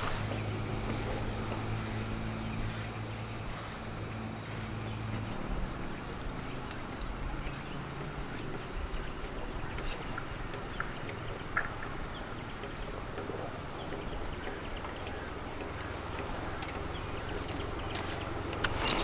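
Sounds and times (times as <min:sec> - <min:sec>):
insects trilling: 0:00.0 - 0:19.0
low hum: 0:00.0 - 0:19.0.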